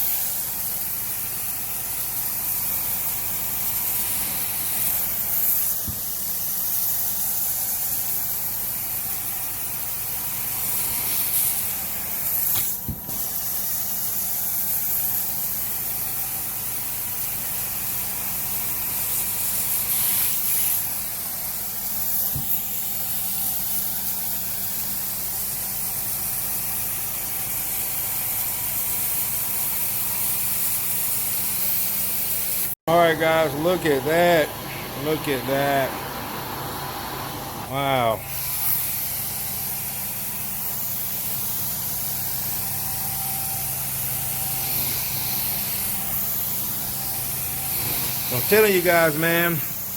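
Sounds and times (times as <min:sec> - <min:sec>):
carpet cleaning machine running: 0:00.0 - 0:49.9.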